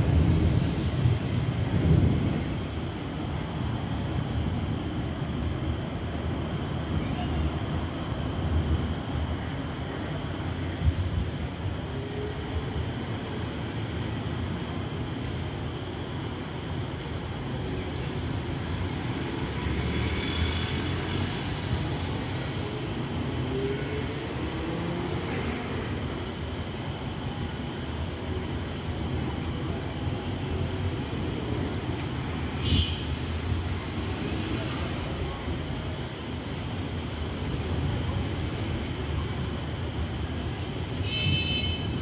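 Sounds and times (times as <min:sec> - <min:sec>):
steady rain: 0:00.0 - 0:42.0
wind in trees: 0:00.0 - 0:42.0.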